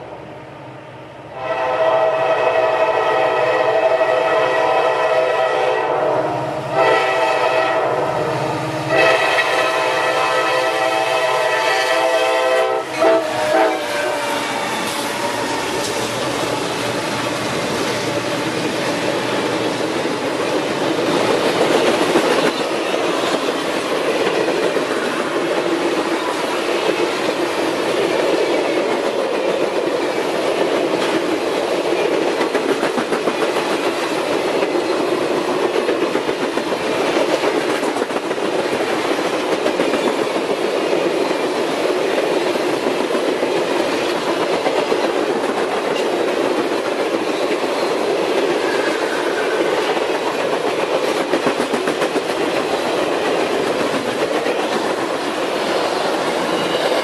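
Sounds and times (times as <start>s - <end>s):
train wheels rolling on rails: 4.6s - 57.0s.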